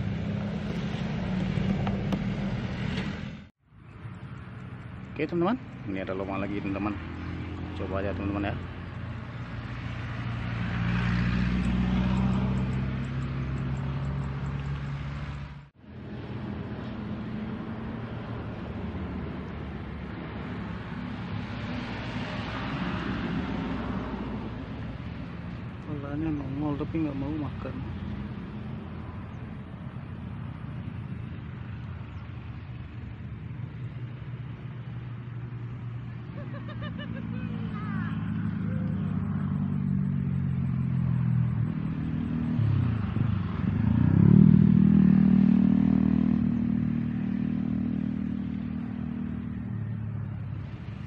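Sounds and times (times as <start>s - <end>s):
motor vehicle engine rumble: 0.0s - 51.0s.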